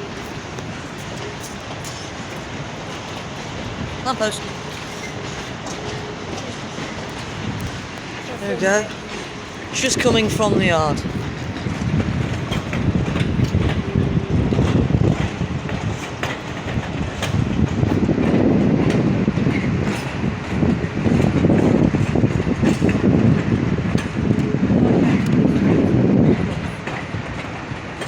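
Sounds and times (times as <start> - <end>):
locomotive engine rumbling: 0.0 - 28.0
wheels clicking over rail joints: 0.0 - 28.0.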